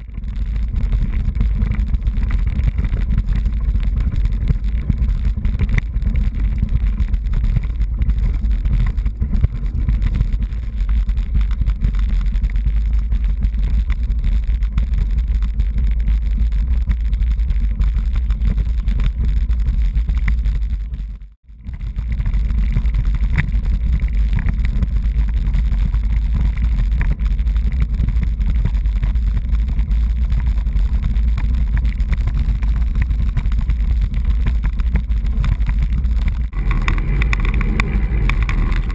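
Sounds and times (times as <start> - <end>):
bike rattling over cobblestones: 0.0 - 38.9
wind buffeting microphone: 0.0 - 38.9.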